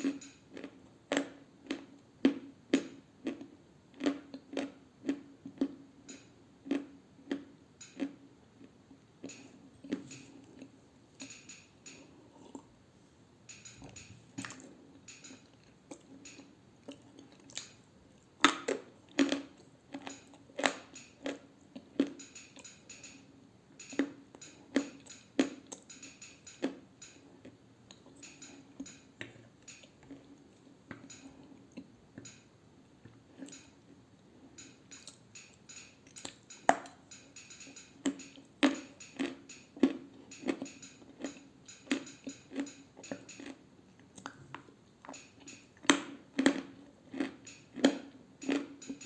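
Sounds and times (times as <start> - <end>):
crunchy chewing: 0.0 - 12.7, 13.5 - 32.4, 34.5 - 49.0.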